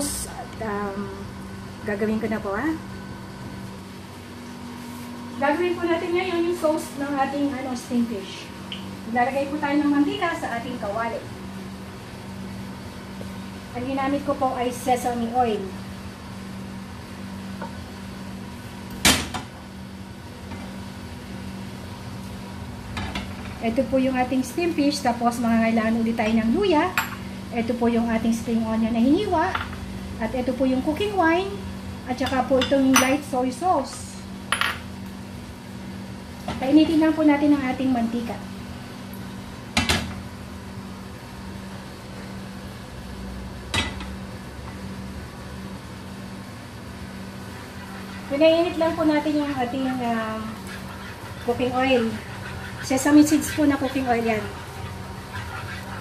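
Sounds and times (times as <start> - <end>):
low kitchen hum: 0.0 - 56.0.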